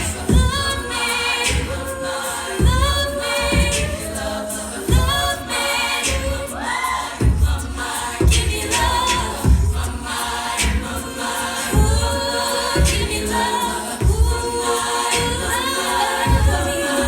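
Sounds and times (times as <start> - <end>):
steady low beat: 0.0 - 6.6, 7.2 - 17.0
women singing in harmony: 0.0 - 17.0.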